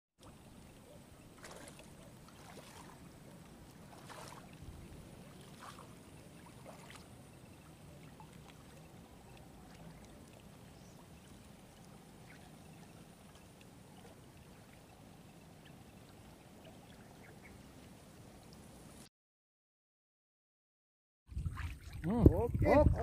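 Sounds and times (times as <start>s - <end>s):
small waves lapping: 0.2s - 19.1s, 21.4s - 23.0s
soft water splashes: 0.2s - 19.1s, 21.3s - 23.0s.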